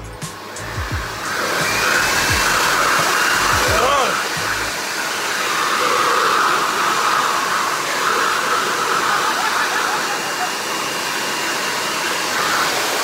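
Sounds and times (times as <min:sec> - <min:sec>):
leaf blower running: 0:00.0 - 0:13.0.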